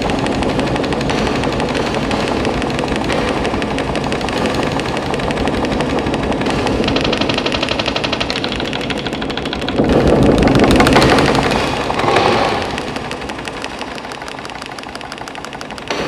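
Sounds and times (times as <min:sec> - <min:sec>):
pulsing high buzz: 0:00.0 - 0:16.0
rapid crackle of clicks: 0:00.0 - 0:16.0.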